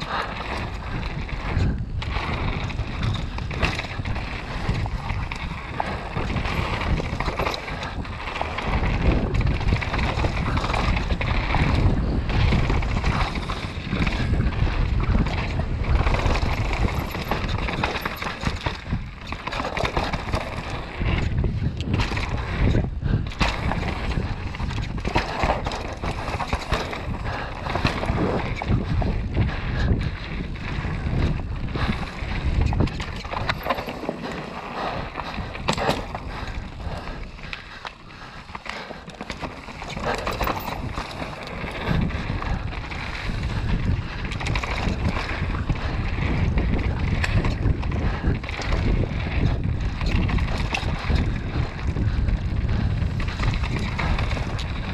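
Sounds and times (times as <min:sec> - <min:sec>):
bike knocking and rattling: 0:00.0 - 0:54.9
tyres rolling over dirt: 0:00.0 - 0:54.9
wind buffeting microphone: 0:00.0 - 0:54.9.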